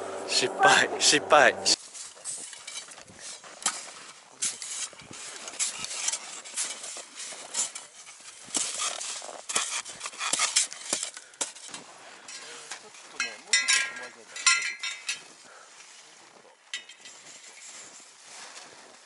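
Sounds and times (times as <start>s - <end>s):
snow shovels scraping packed snow: 0.3s - 13.4s, 15.1s - 19.0s.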